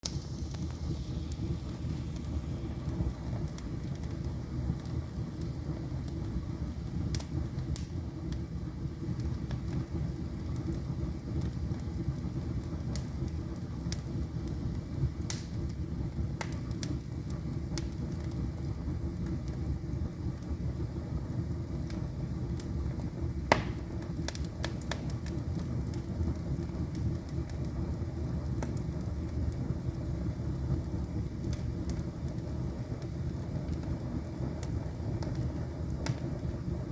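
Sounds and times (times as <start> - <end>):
fire crackles and pops: 0.0 - 36.9
low rumble of flames: 0.0 - 36.9.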